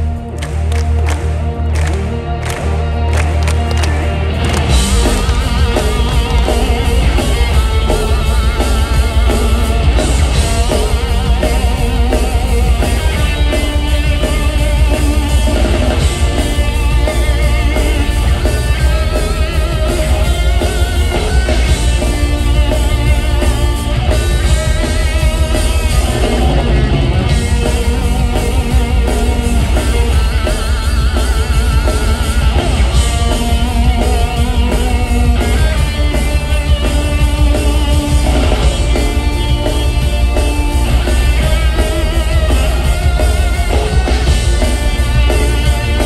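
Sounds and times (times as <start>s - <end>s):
drum kit: 0.0s - 46.0s
electric guitar: 0.0s - 46.0s
heavy bass: 0.0s - 46.0s.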